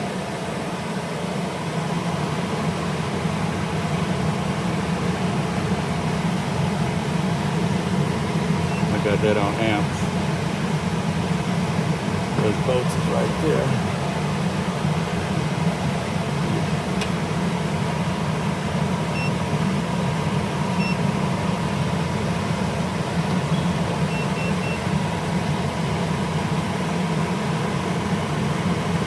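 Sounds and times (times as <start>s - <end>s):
hvac equipment humming: 0.0s - 29.0s.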